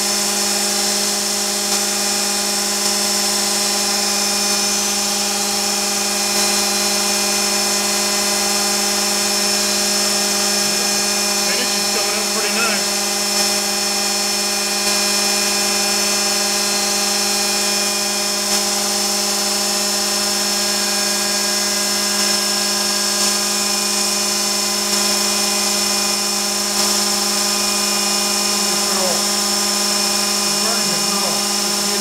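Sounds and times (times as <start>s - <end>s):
router bit cutting wood: 0.0s - 32.0s
shop vacuum running: 0.0s - 32.0s.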